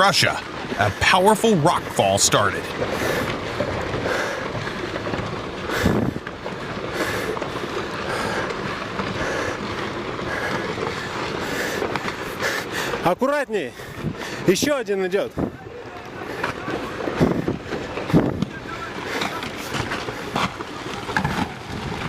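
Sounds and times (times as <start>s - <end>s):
rumble of tumbling rocks: 0.0s - 22.0s.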